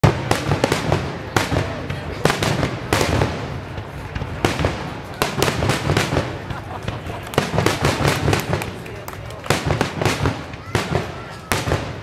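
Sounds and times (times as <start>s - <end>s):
fireworks pops and crackle: 0.0s - 12.0s.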